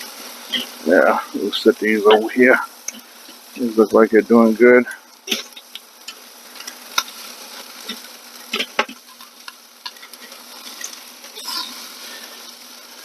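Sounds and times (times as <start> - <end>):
chicken sizzling on grill: 0.0 - 13.0.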